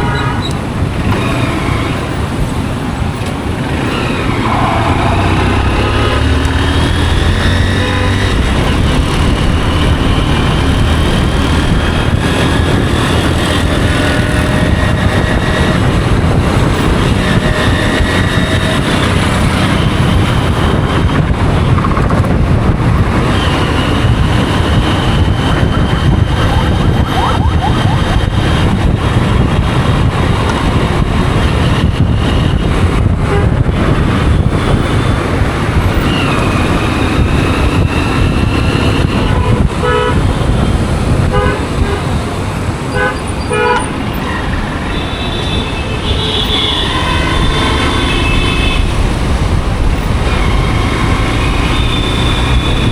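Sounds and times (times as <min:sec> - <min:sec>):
motorcycle engine rumble: 0:00.0 - 0:52.9
road noise: 0:00.0 - 0:52.9.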